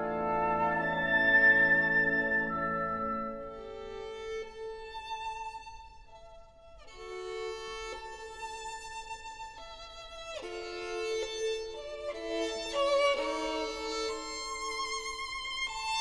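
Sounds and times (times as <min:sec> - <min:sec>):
violin playing slow notes: 0:00.0 - 0:16.0.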